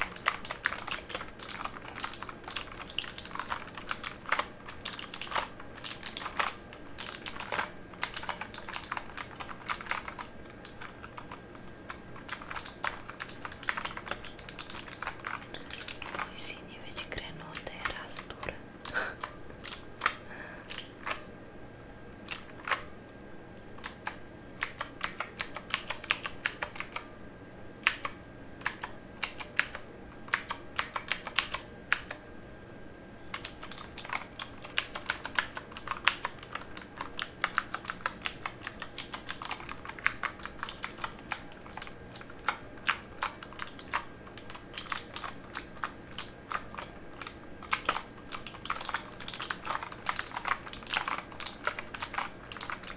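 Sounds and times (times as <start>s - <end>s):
mechanical keyboard typing: 0.0s - 21.2s, 22.3s - 22.9s, 23.8s - 27.1s, 27.8s - 32.2s, 33.3s - 52.9s.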